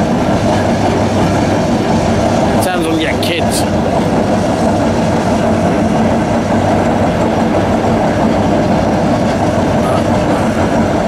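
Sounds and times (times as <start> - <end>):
diesel engine drone: 0.0 - 11.0
rough grinding rumble: 0.0 - 11.0.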